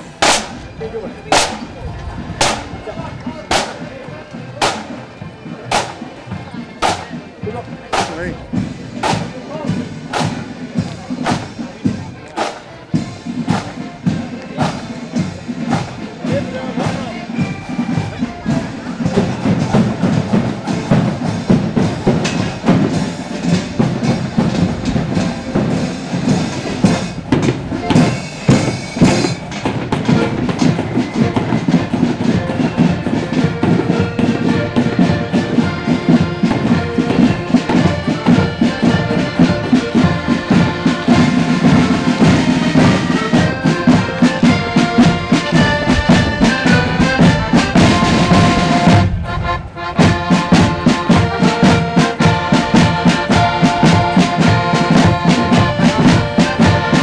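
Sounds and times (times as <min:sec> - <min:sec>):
marching band melody instruments: 0:00.0 - 0:57.0
side drums: 0:00.0 - 0:57.0.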